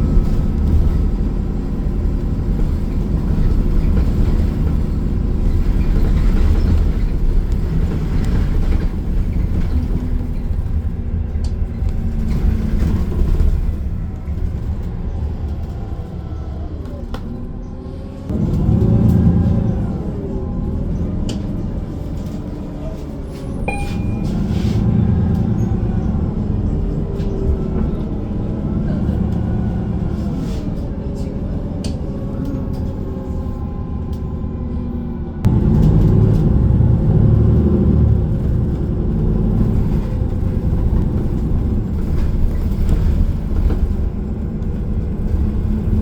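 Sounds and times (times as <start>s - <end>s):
bus engine and road rumble: 0.0s - 46.0s
engine whine: 0.0s - 46.0s.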